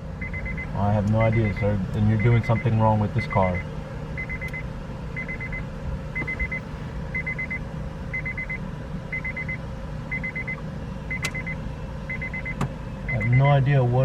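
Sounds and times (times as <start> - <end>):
car warning chime: 0.2 - 13.9.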